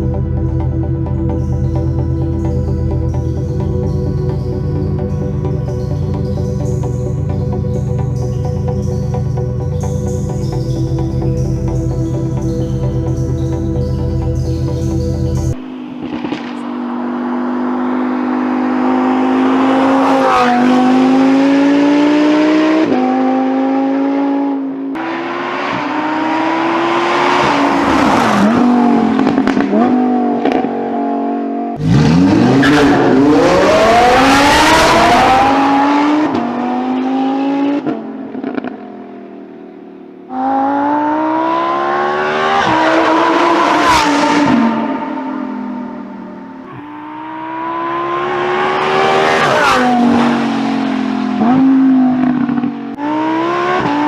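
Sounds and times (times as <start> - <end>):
sports car accelerating hard: 0.0 - 54.0.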